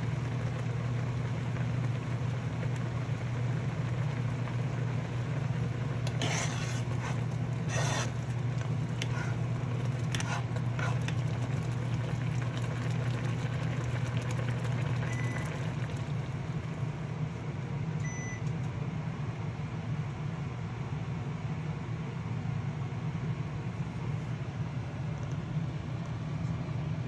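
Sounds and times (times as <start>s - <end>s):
appliance electrical hum: 0.0s - 27.0s.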